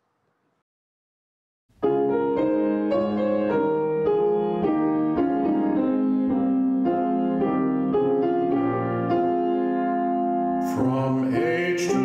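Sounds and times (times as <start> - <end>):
keyboard playing hymn chords: 1.8 - 12.0.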